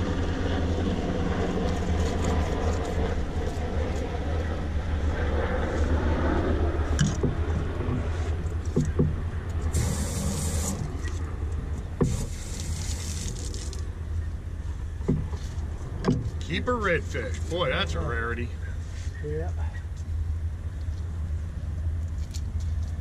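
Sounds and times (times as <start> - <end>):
low engine-like rumble: 0.0 - 23.0.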